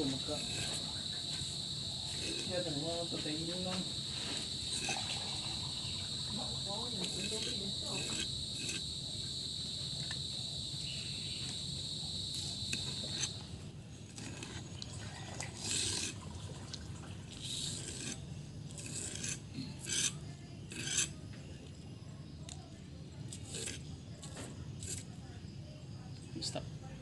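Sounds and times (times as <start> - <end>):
insect trill: 0.0 - 16.4, 17.2 - 27.0.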